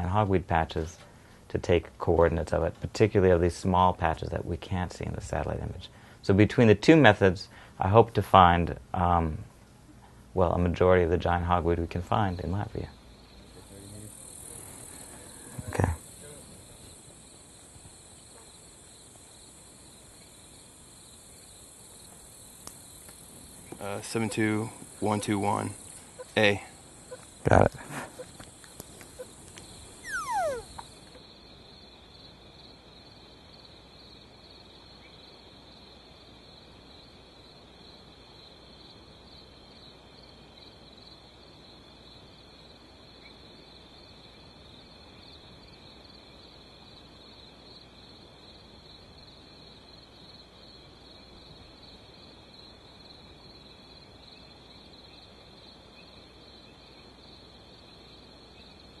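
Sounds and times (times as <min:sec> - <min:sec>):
insects chirring: 0:11.2 - 0:59.0.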